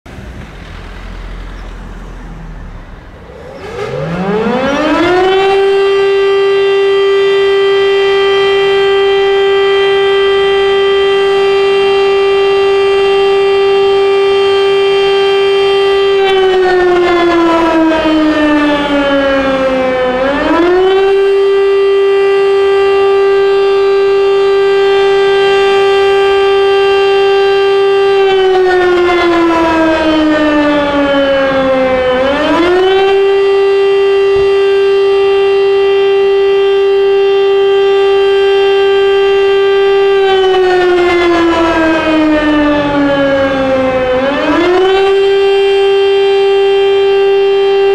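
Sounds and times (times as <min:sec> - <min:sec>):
rising and falling alert siren wail: 0:00.1 - 0:47.9.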